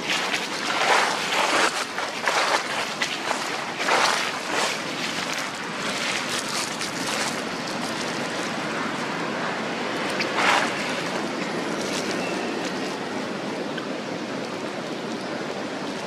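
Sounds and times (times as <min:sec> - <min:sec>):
dry leaves rustling: 0:00.0 - 0:09.4, 0:10.0 - 0:13.5.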